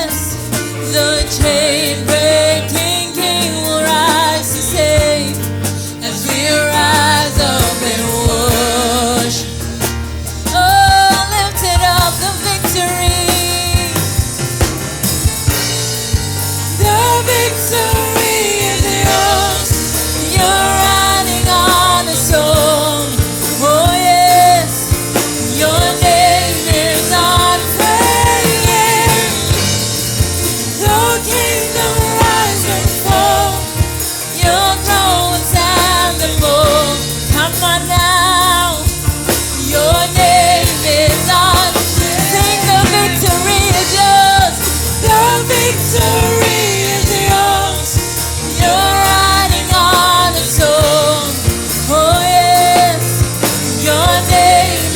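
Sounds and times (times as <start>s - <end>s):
band accompaniment with steady beat: 0.0s - 54.9s
voices singing: 0.0s - 54.9s.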